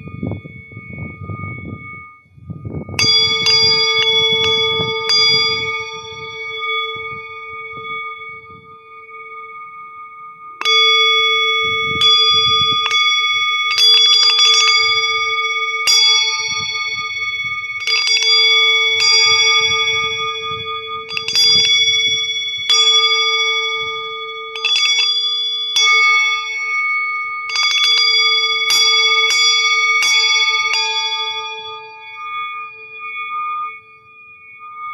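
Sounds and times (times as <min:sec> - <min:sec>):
singing bowl ringing: 0:00.0 - 0:34.9
singing bowl strikes: 0:00.0 - 0:34.9.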